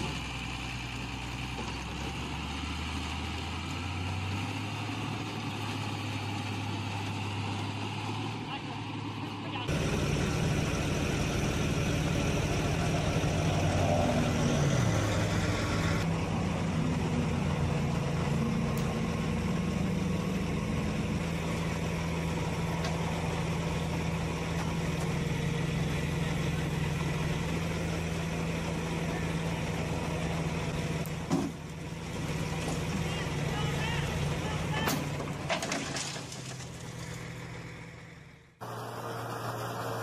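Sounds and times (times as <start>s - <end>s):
truck engine running under load: 0.0s - 40.0s.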